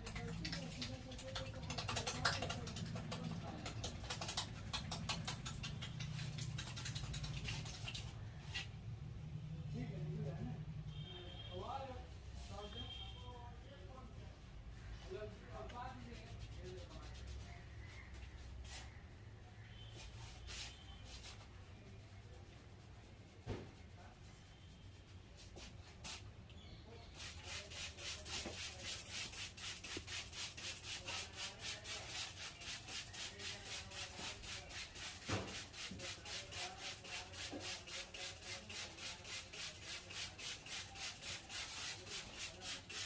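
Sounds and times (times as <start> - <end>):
hands rubbing hair and scalp: 0.0 - 8.8, 12.5 - 19.0, 20.0 - 26.3, 27.2 - 43.0.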